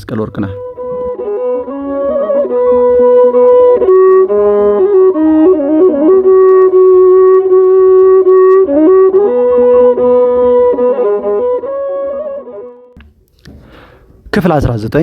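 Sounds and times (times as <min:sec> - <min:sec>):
flute-like melody: 0:00.3 - 0:13.0.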